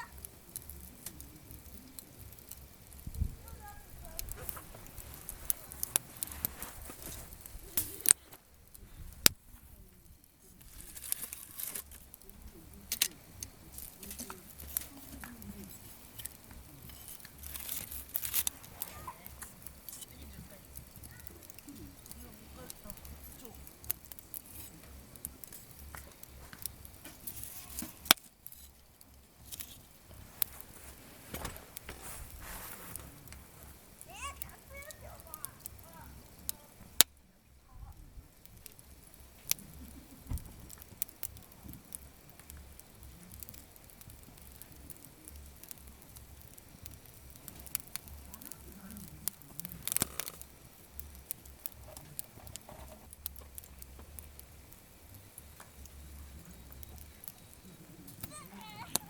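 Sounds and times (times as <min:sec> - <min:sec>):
wood popping and snapping: 0:00.0 - 0:37.2, 0:38.4 - 0:59.0
campfire crackling: 0:00.0 - 0:59.0.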